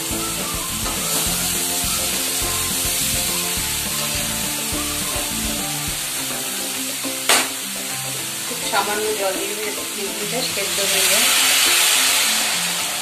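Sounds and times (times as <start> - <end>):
background music: 0.0 - 13.0
vegetables sizzling in hot oil: 0.0 - 13.0.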